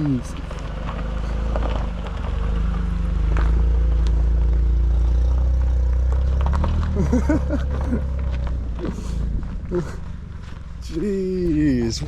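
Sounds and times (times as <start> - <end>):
car engine pulling at low speed: 0.0 - 12.0
stones clattering under tyres: 0.0 - 12.0.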